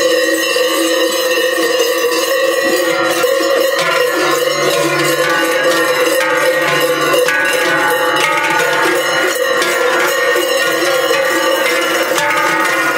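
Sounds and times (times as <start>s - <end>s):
large cowbells clanging: 0.0s - 12.9s.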